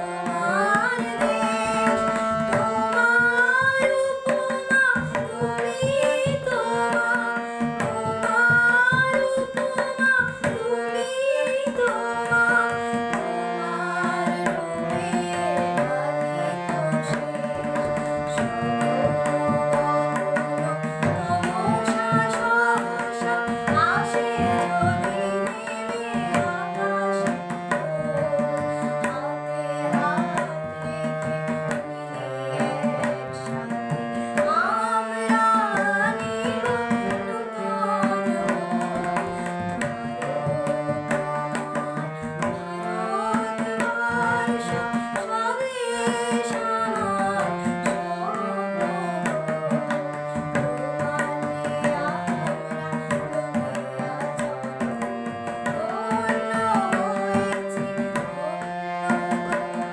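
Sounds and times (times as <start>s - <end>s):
girl singing: 0.0s - 59.9s
harmonium chords: 0.0s - 59.9s
tabla rhythm: 0.0s - 59.9s.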